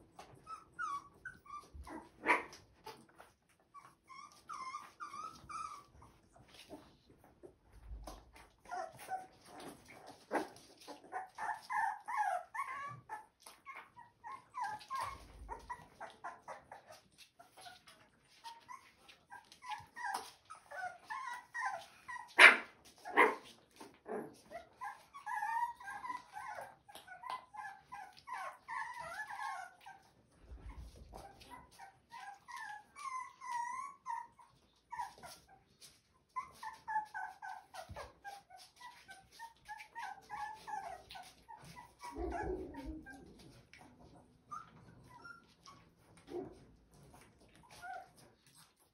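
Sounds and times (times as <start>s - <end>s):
puppies whimpering and yipping: 0.0s - 48.9s.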